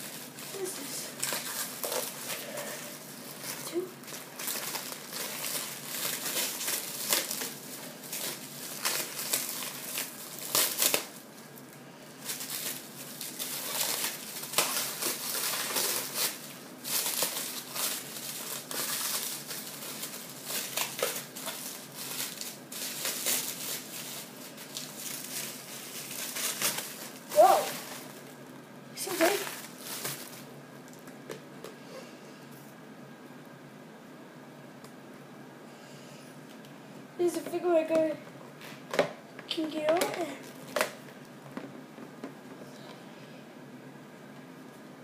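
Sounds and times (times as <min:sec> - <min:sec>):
plastic packaging crinkling: 0:00.0 - 0:31.8, 0:37.4 - 0:42.4.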